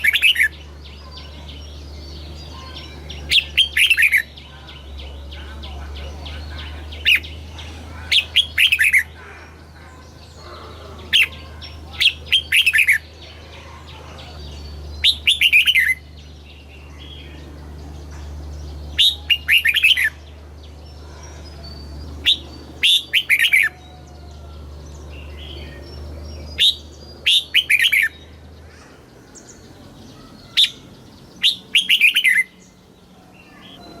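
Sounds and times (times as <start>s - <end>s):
bulbul singing: 0.0s - 34.0s
low steady hum: 0.0s - 34.0s.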